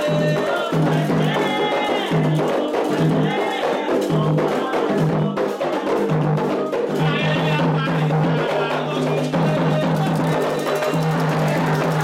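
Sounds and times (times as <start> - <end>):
hand drums playing rhythm: 0.0 - 12.0.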